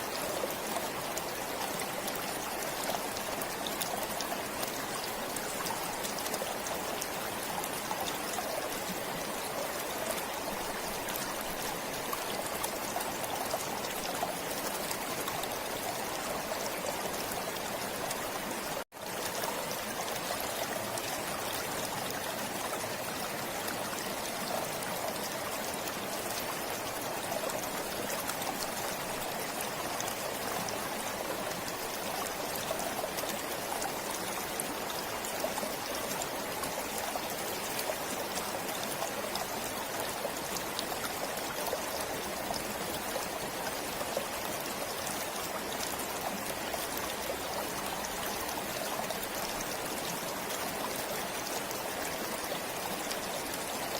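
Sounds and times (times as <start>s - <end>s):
stream water trickling over stones: 0.0s - 53.9s.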